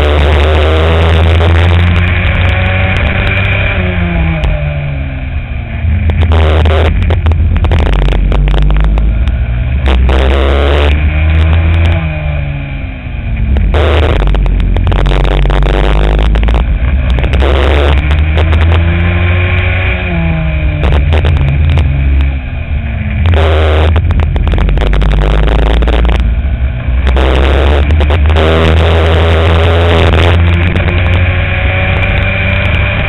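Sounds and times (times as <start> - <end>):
racing kart engine revving: 0.0 - 33.0.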